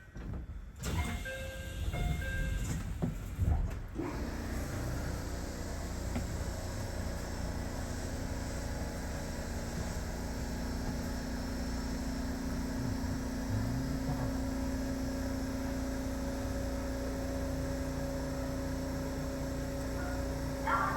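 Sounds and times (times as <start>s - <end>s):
train humming: 1.2s - 20.9s.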